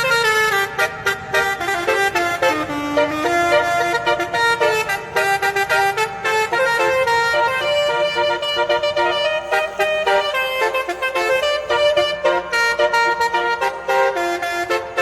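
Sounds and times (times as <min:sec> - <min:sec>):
multi-tone musical horn melody: 0:00.0 - 0:15.0.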